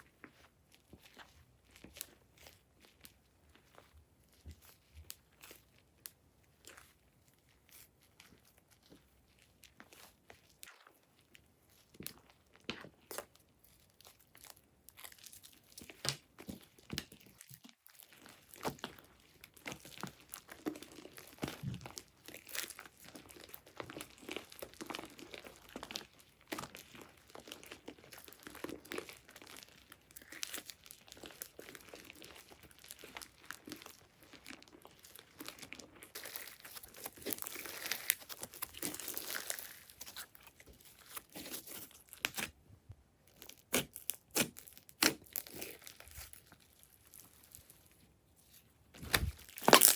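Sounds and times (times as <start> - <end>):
crunchy slime crackling: 0.0 - 49.9.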